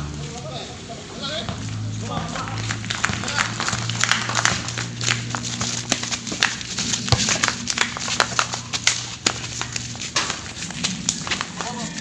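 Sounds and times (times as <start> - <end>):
steady low hum: 0.0 - 11.5
basketball bouncing on concrete: 1.5 - 12.0
flip-flops slapping on concrete: 2.1 - 12.0.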